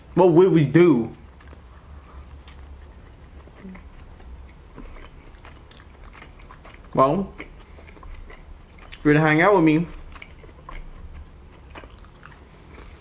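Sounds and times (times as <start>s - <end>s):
wet chewing mouth clicks: 1.2s - 13.0s.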